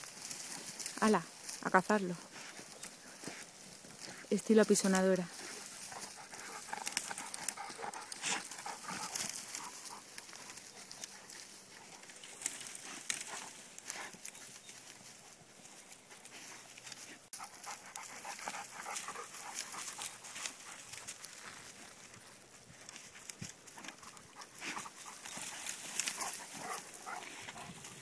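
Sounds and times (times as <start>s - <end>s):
twigs crackling and rustling: 0.0s - 28.0s
dogs panting: 5.3s - 28.0s.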